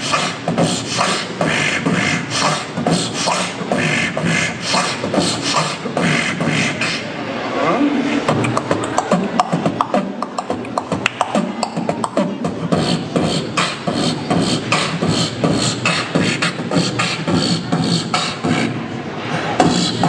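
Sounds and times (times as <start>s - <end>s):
human beatboxing: 0.0s - 20.0s.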